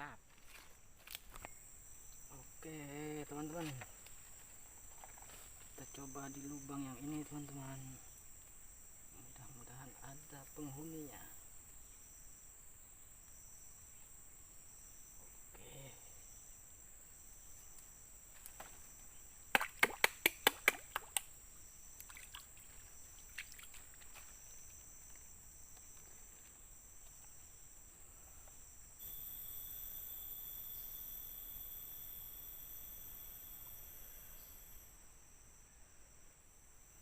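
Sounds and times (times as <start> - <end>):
high insect tone: 0.0 - 37.0
insects chirping chorus: 0.0 - 37.0.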